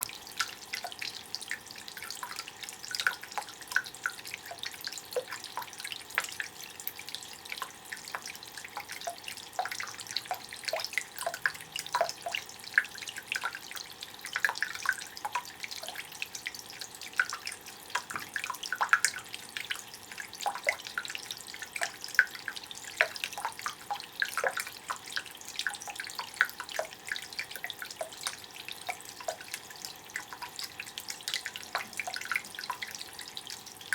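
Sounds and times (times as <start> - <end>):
water trickling into stone basin: 0.0 - 33.9.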